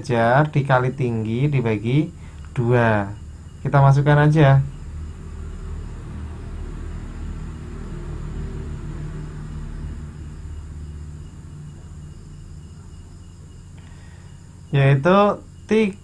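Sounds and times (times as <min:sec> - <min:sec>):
faint steady hum: 0:00.0 - 0:16.0
low background rumble: 0:00.0 - 0:16.0.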